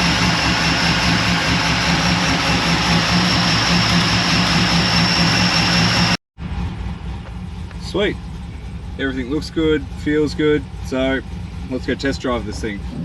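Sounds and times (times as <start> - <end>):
quieter engine sound: 0.0 - 13.0
v eight engine running: 0.0 - 13.0.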